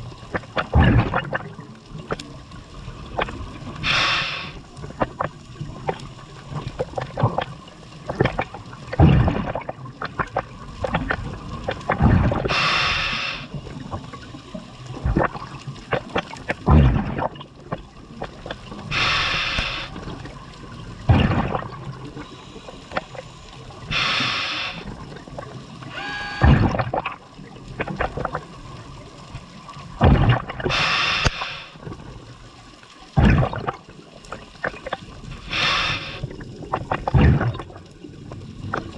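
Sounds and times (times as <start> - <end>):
exhaled bubbles rushing underwater: 0.0 - 38.9
underwater gurgles: 0.0 - 38.9.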